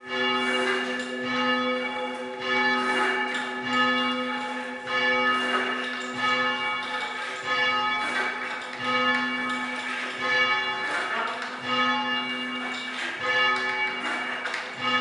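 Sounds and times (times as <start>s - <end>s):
church bells change ringing: 0.0s - 15.0s.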